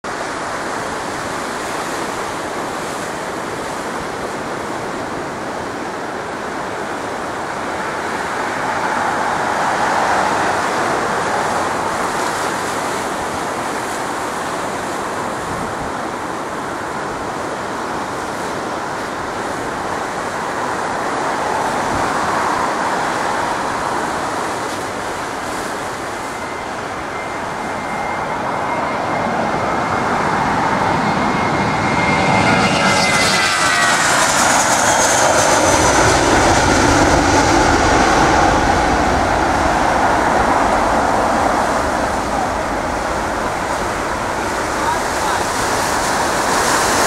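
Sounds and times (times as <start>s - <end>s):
distant jet engines roaring: 0.0s - 47.0s
wind: 0.0s - 47.0s.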